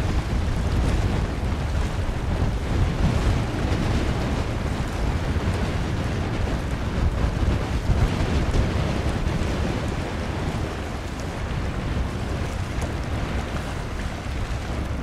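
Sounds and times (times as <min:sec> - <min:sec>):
choppy water: 0:00.0 - 0:15.0
wind buffeting microphone: 0:00.0 - 0:15.0.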